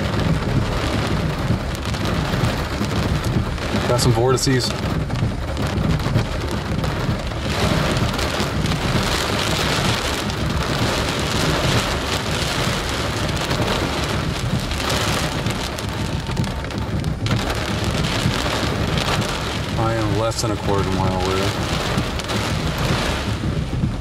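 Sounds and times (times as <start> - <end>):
heavy rain falling: 0.0 - 24.0
low rumble: 0.0 - 24.0.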